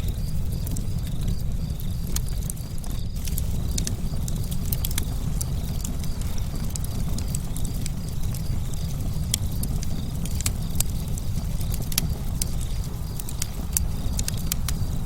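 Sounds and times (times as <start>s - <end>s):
campfire crackling and popping: 0.0s - 15.0s
low rumble of flame: 0.0s - 15.0s.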